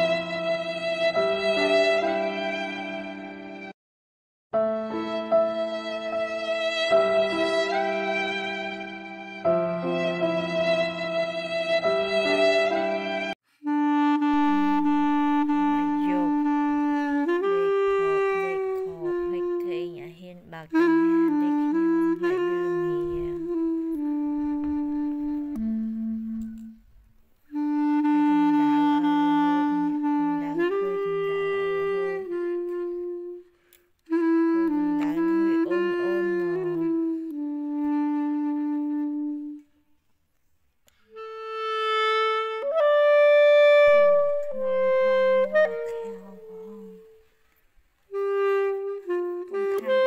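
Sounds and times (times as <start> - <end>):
reedy wind instrument melody: 0.0 - 3.7, 4.6 - 39.9, 40.9 - 50.0.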